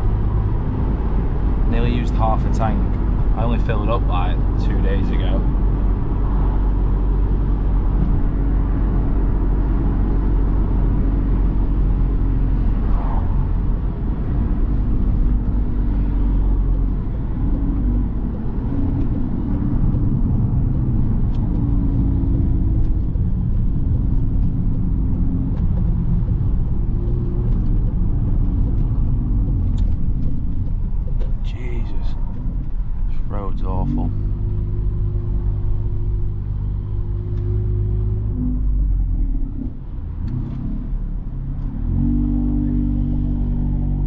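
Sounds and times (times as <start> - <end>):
car engine hum from cabin: 0.0 - 44.0.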